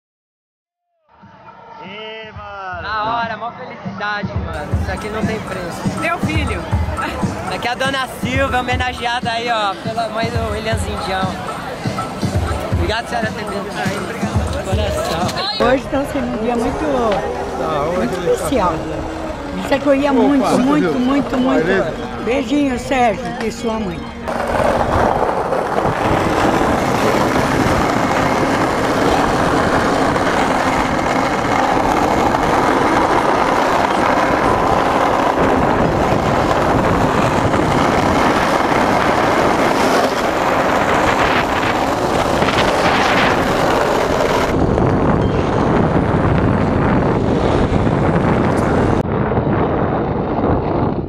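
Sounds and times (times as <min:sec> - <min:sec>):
wind on microphone: 0:04.5 - 0:51.0
skateboard wheels rolling on asphalt: 0:04.6 - 0:51.0.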